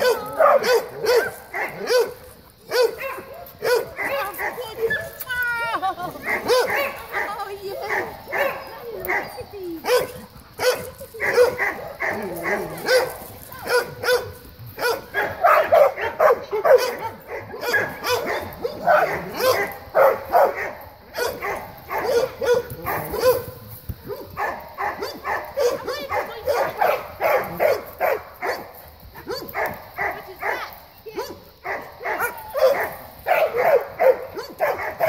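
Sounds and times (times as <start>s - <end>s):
dogs barking and yipping: 0.0s - 35.0s.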